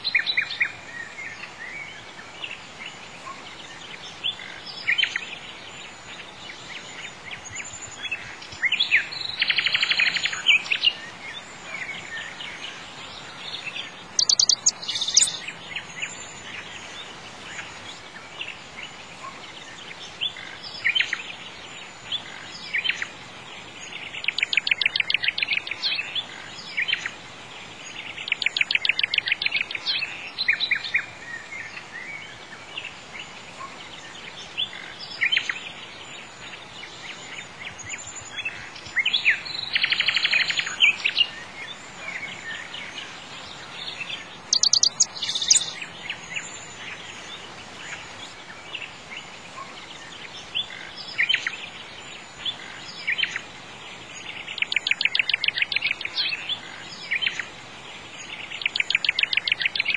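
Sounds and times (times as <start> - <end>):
birds chirping and trilling: 0.0 - 59.9
steady background hiss: 0.0 - 59.9.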